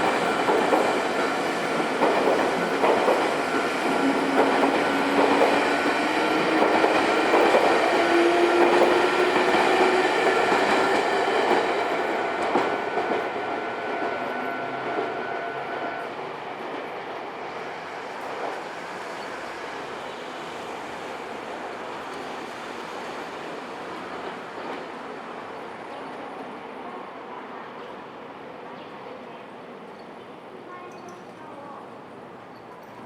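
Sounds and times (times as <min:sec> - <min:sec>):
train wheels clacking: 0:00.0 - 0:26.5.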